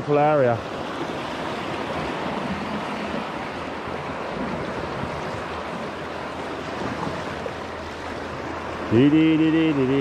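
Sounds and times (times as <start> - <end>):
sea waves washing on rocky shore: 0.0 - 10.0
wind on microphone: 0.7 - 10.0.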